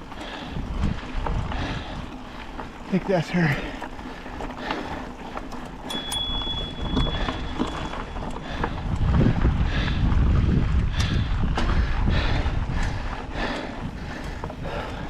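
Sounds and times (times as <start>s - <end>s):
wind rumbling on microphone: 0.0s - 2.9s, 3.7s - 15.0s.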